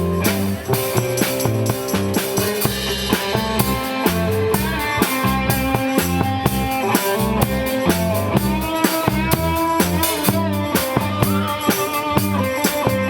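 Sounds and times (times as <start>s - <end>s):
bass: 0.0s - 13.0s
drum-kit beat: 0.0s - 13.0s
rock band instrumental: 0.0s - 13.0s.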